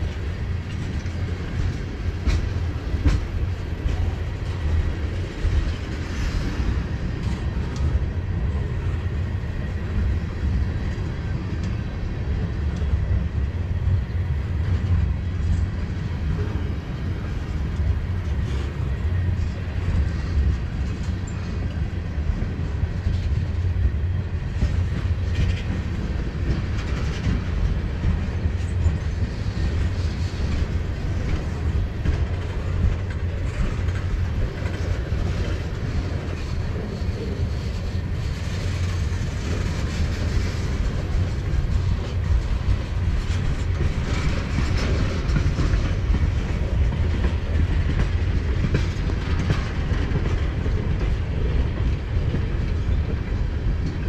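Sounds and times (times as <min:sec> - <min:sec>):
wheels clacking over rails: 0:00.0 - 0:08.8, 0:14.8 - 0:54.0
freight train rumbling: 0:00.0 - 0:54.0.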